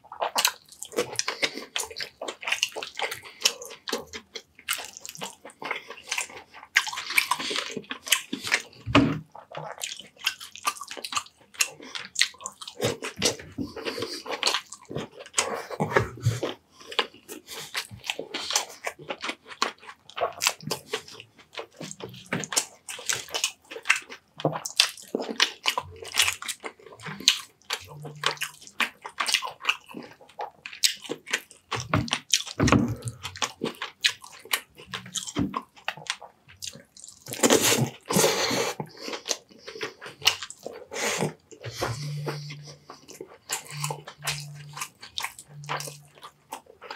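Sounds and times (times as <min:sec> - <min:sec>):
wet chewing and lip-smacking: 0:00.0 - 0:46.9.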